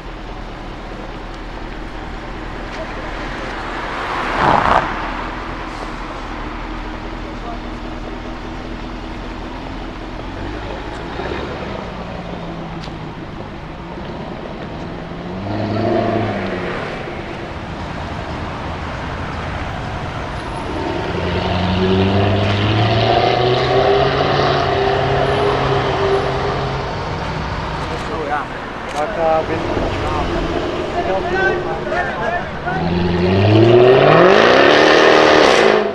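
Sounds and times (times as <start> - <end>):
car engine revving: 0.0 - 35.9
street traffic: 0.0 - 35.9.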